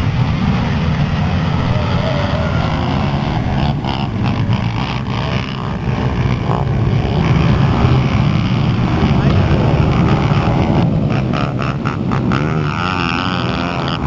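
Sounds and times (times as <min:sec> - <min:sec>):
pit bike engines revving: 0:00.0 - 0:14.0.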